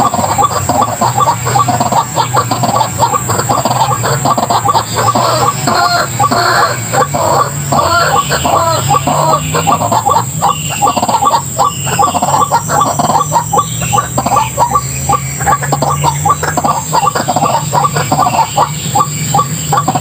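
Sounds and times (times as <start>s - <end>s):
waterhen harsh croaking calls: 0.0s - 20.0s.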